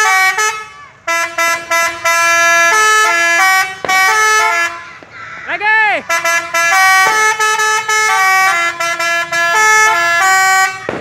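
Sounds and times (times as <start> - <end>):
air horn trumpets playing tune: 0.0 - 5.1, 5.9 - 11.0.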